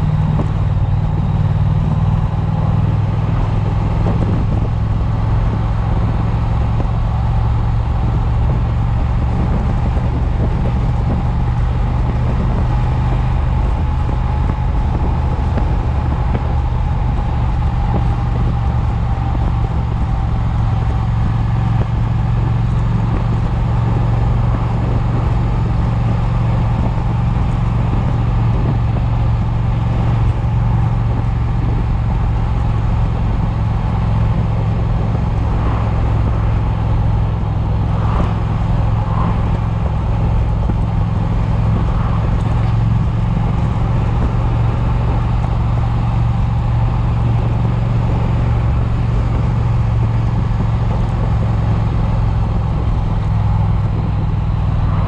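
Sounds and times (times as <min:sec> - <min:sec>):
motorcycle engine cruising: 0:00.0 - 0:55.0
wind buffeting microphone: 0:00.0 - 0:55.0.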